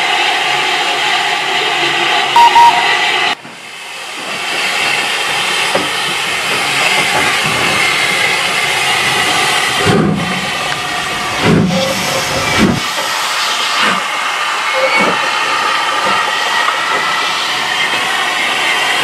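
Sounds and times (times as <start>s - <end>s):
steam hissing: 0.1s - 19.0s
steam locomotive exhaust chuffs: 0.1s - 19.0s.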